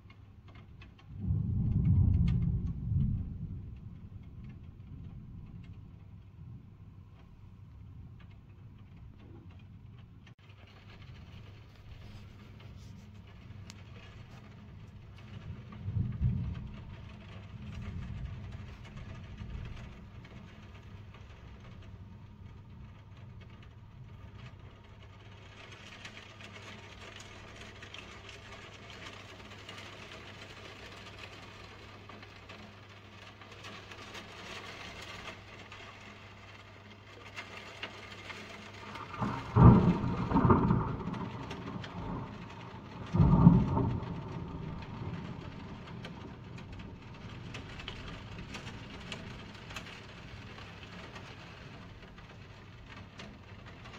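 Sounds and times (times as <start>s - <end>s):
steady rain: 0.0s - 53.9s
thunder claps: 0.6s - 9.6s, 10.7s - 32.3s, 38.0s - 53.9s.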